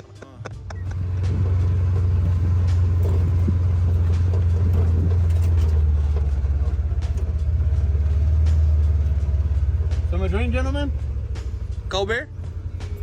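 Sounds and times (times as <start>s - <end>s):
vehicle engine droning: 0.5s - 13.0s.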